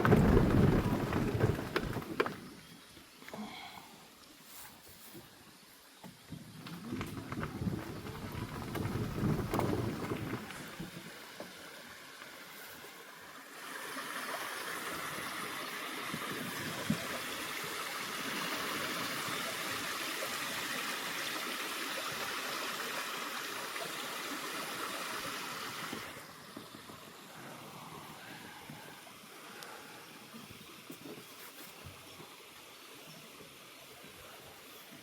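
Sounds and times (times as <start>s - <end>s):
forest stream rushing: 6.8s - 35.0s.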